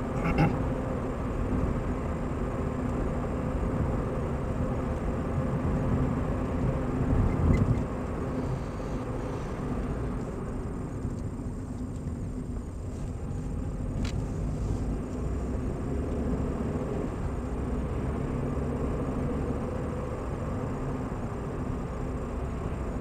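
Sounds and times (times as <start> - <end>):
car engine hum: 0.0 - 23.0.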